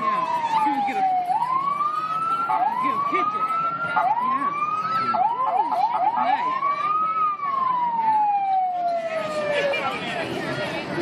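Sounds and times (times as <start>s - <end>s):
emergency siren wailing: 0.0s - 10.6s.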